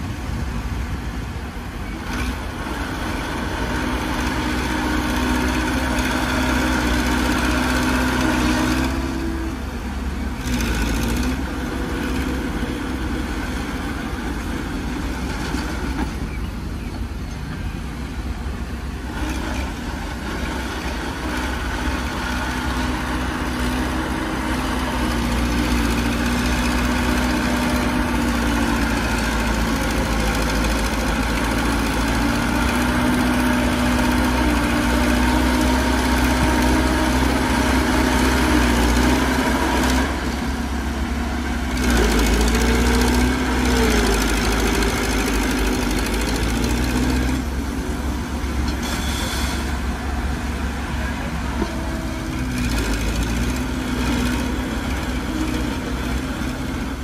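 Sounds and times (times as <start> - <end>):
heavy diesel machinery engines: 0.0 - 57.0.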